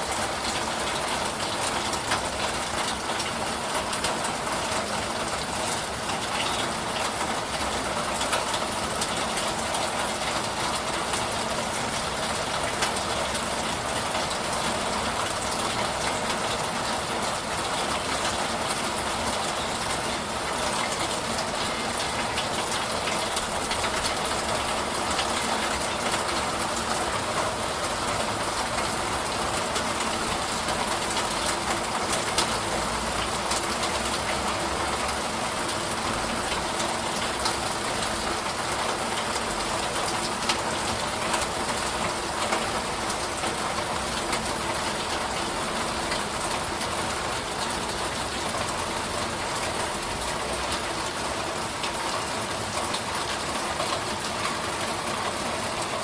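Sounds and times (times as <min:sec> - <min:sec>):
heavy rain falling: 0:00.0 - 0:56.0
raindrops ticking: 0:00.0 - 0:56.0.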